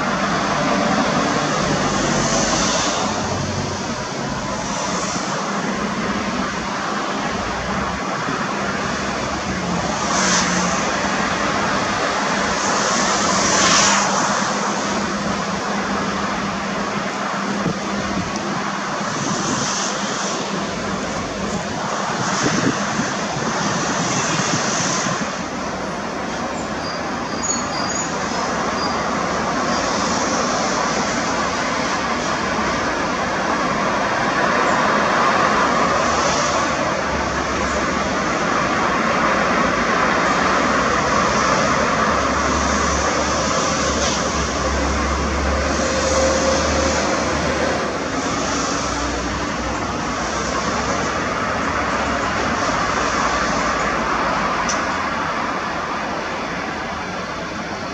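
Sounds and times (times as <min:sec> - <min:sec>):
jet airliner engines rushing: 0:00.0 - 0:57.9.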